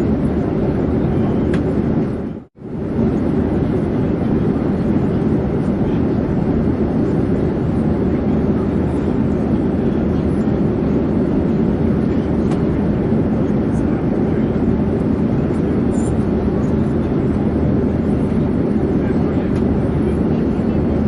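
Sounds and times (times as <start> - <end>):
airplane rumble in flight: 0.0 - 21.0.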